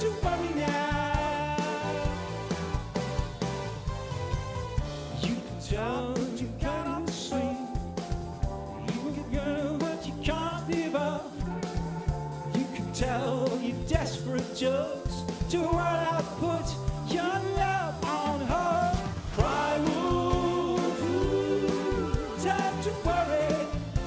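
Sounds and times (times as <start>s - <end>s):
man singing with vibrato: 0.0s - 2.4s, 5.1s - 7.8s, 8.7s - 24.0s
live band playing new wave: 0.0s - 24.0s.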